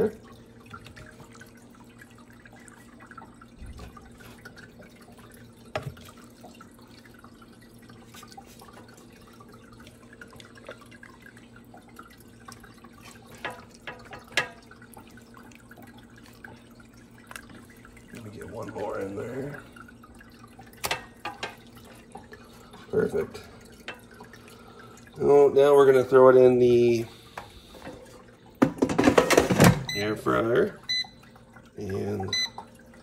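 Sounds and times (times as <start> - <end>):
marinade dripping: 0.0 - 28.6, 29.9 - 33.0.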